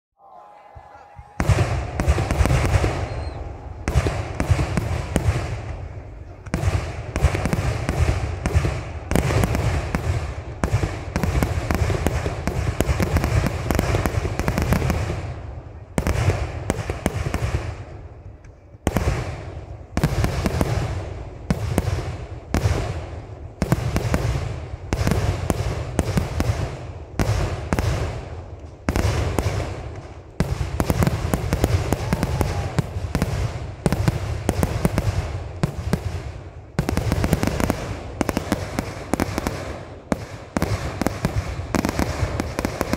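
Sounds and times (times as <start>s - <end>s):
fireworks exploding rapidly: 1.2s - 18.0s, 18.8s - 42.9s.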